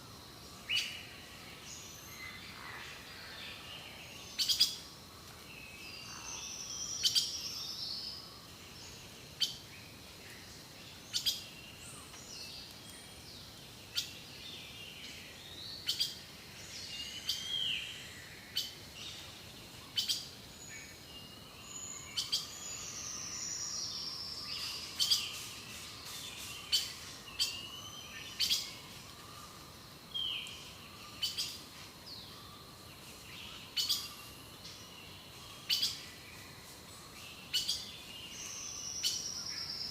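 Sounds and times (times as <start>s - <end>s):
birds warbling song: 0.0s - 39.9s.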